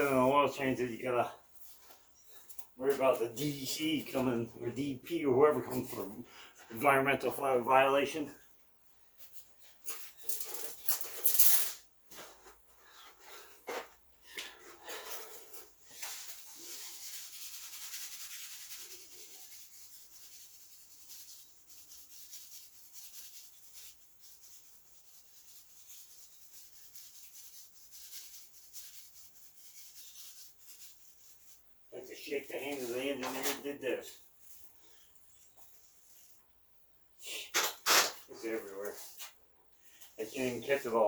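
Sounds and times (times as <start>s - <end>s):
faint rubbing and scuffing: 0.0s - 6.9s, 9.0s - 17.9s, 18.5s - 36.5s, 37.8s - 41.0s.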